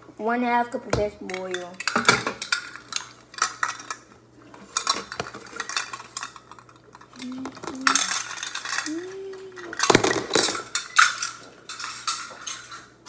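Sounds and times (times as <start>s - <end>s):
plastic measuring cups clacking: 1.3s - 4.1s, 4.7s - 12.8s.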